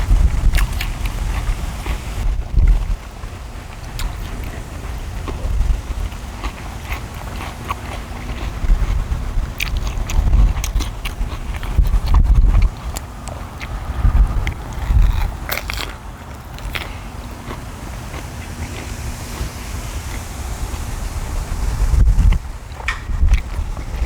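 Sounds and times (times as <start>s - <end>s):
close chewing and biting: 0.0s - 20.9s, 21.9s - 24.0s
wind rumbling on microphone: 0.0s - 24.0s.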